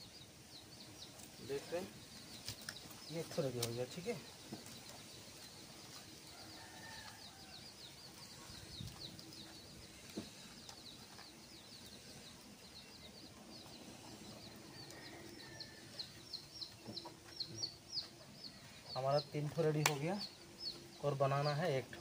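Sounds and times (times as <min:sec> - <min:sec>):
birds chirping: 0:00.0 - 0:22.0
faint chicken clucking: 0:00.0 - 0:22.0.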